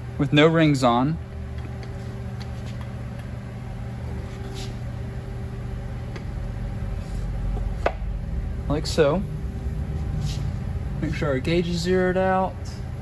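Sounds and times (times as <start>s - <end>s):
shop machinery hum: 0.0s - 13.0s.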